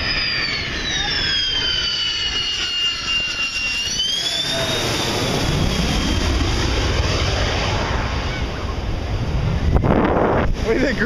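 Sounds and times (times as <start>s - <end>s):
deep jet roar: 0.0s - 11.0s
jet turbine whine: 0.0s - 11.0s.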